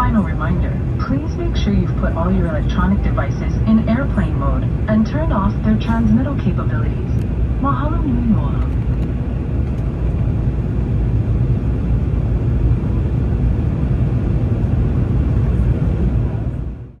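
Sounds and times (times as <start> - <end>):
airflow over fuselage: 0.0 - 16.9
jet engines rumbling: 0.0 - 17.0.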